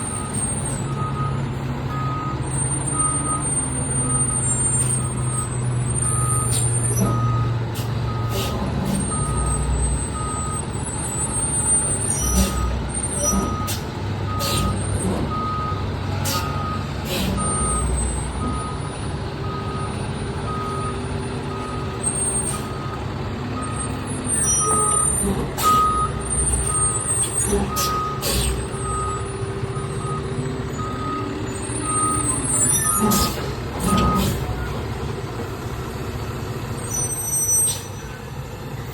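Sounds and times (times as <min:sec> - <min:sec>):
diesel engine rumble: 0:00.0 - 0:38.9
brakes squealing and hissing: 0:02.0 - 0:38.9.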